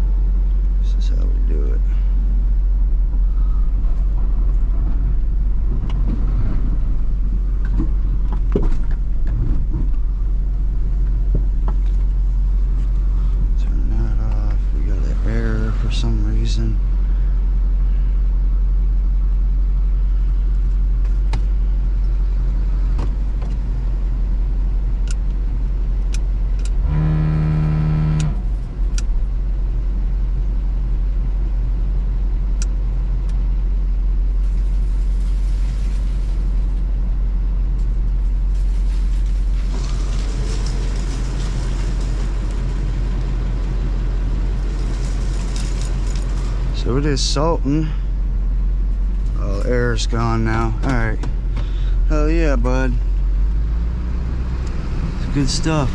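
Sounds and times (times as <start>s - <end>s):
truck engine running: 0.0s - 55.9s.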